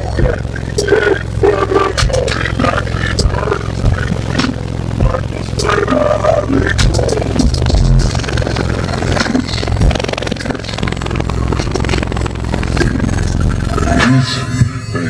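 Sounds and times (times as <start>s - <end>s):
crackling and rattling: 0.0s - 14.1s
very loud deep bass: 0.0s - 15.0s.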